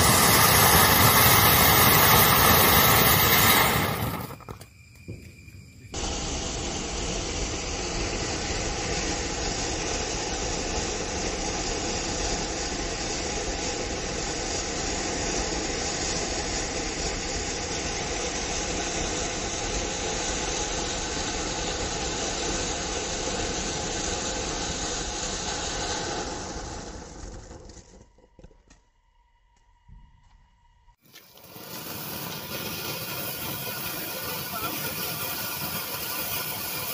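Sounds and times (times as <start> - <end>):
firework fountain hissing: 0.0 - 27.9, 31.0 - 36.9.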